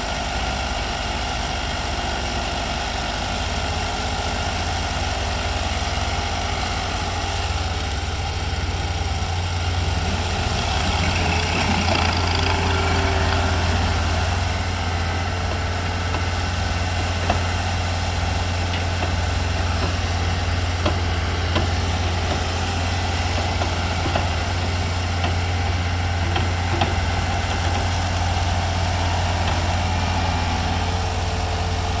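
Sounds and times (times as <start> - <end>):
heavy equipment engine drone: 0.0 - 32.0.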